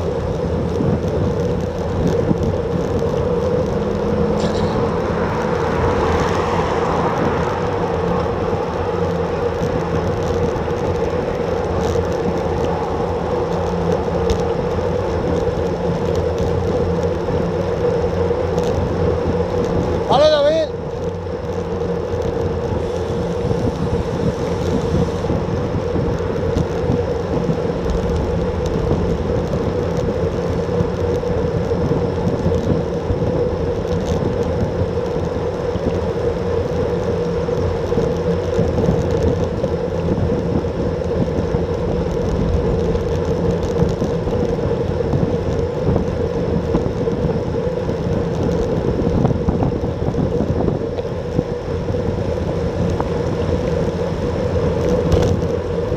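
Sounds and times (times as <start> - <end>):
bike tyres on asphalt: 0.0 - 55.9
wind rushing over microphone: 0.0 - 55.9.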